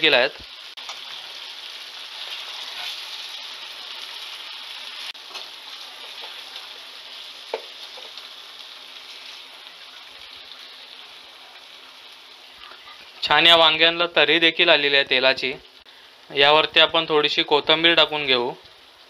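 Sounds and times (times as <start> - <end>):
curry sizzling in oil: 0.0 - 19.0.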